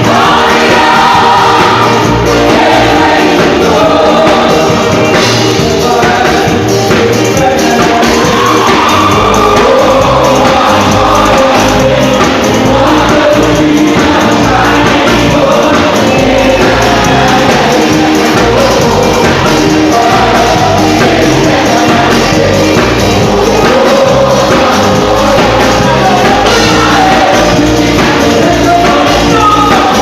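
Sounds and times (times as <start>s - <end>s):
crowd shouting: 0.0s - 5.2s, 7.8s - 30.0s
gospel band playing: 0.0s - 30.0s
voices singing together: 0.0s - 30.0s.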